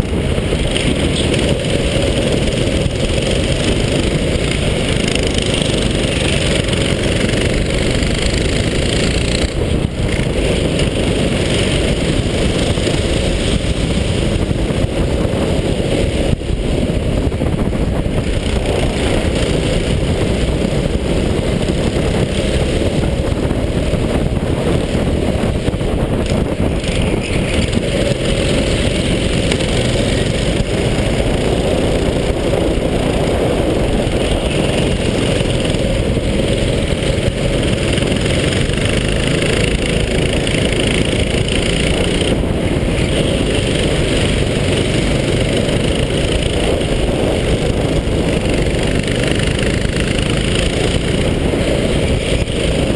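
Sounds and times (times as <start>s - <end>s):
go-kart engine running: 0.0s - 52.9s.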